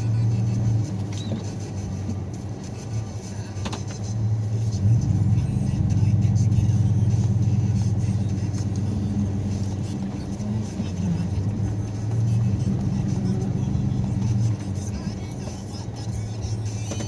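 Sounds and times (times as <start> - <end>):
vehicle engine revving: 0.0 - 2.5, 3.7 - 17.0.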